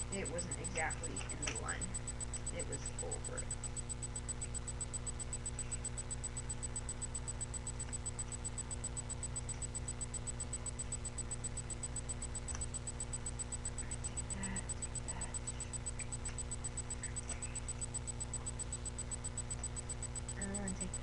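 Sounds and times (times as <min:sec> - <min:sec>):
electrical hum and hiss: 0:00.0 - 0:21.0.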